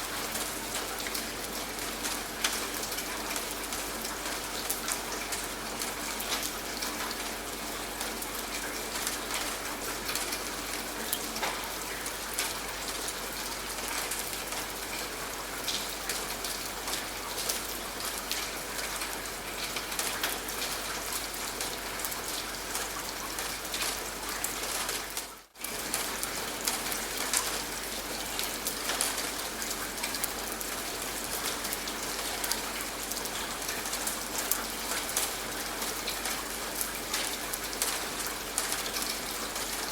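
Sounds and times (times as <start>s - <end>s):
raindrops pattering: 0.0s - 39.9s.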